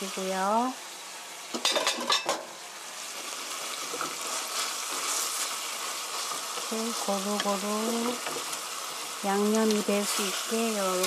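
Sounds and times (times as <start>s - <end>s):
sauce sizzling and bubbling: 0.0s - 11.0s.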